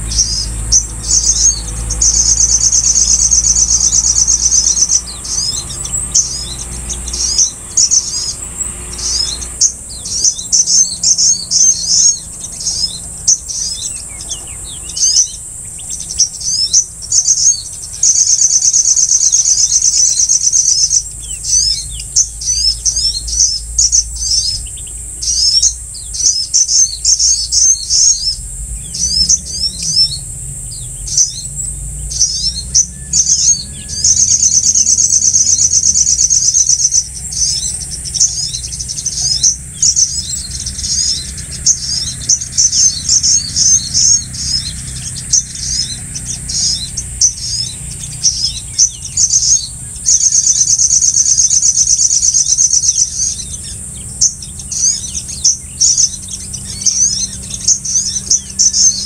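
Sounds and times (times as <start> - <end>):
cricket-like trill: 0.0 - 59.0
high-pitched insect drone: 0.0 - 59.0
small birds chirping: 0.0 - 59.0.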